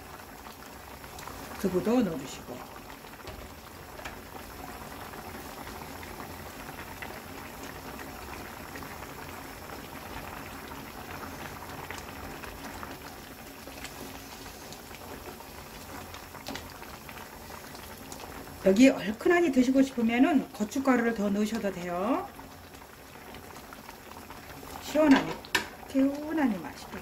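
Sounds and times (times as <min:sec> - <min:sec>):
stew bubbling and popping: 0:00.0 - 0:27.0.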